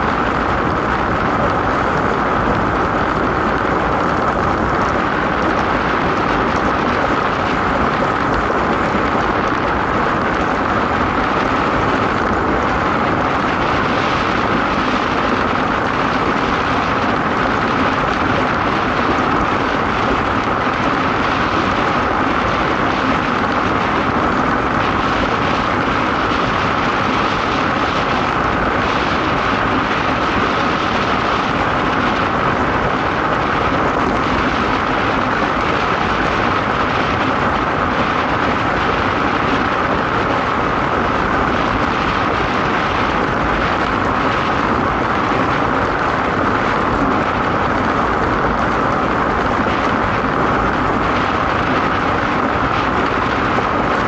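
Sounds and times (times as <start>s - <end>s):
wind rushing past microphone: 0.0s - 54.0s.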